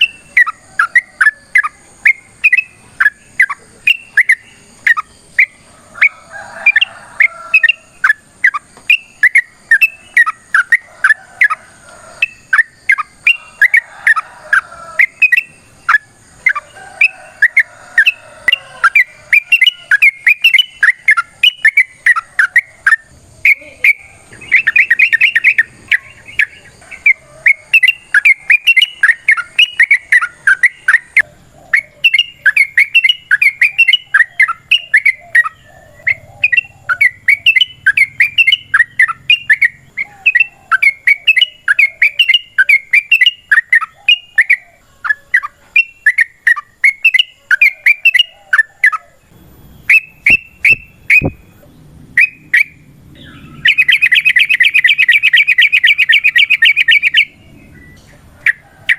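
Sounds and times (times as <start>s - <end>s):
bird chirping: 0.0s - 58.9s.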